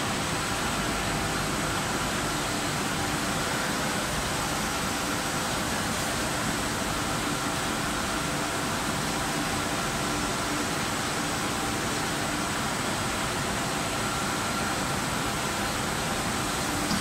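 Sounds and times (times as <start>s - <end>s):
laminator mechanical hum and hiss: 0.0s - 17.0s.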